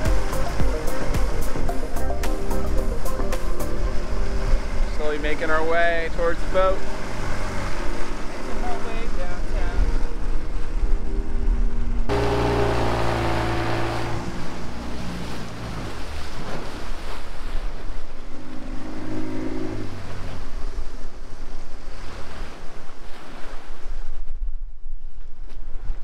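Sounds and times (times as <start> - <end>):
outboard motor running: 0.0 - 21.7
water splashing along hull: 0.0 - 26.0.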